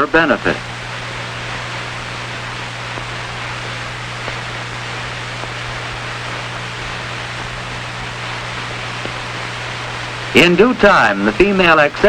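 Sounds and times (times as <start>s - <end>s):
constant low hum: 0.0s - 12.0s
film soundtrack hiss: 0.0s - 12.0s.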